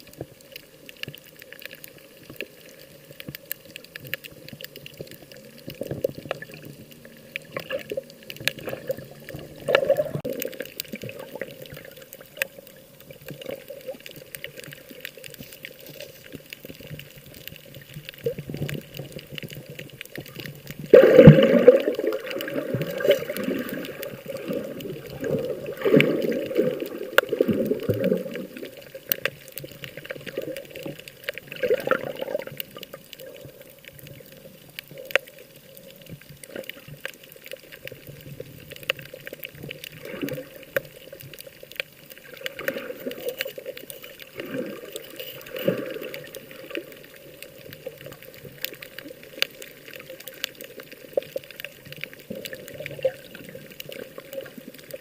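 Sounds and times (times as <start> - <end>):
sea water sloshing: 0.0 - 55.0.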